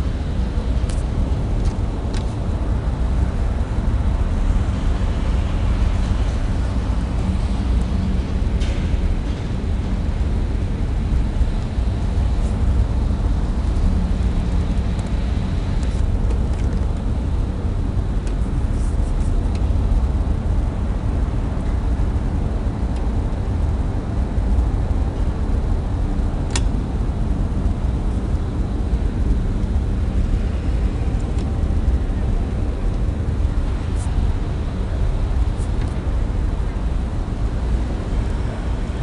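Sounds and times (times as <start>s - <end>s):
elevator low rumble: 0.0s - 39.0s.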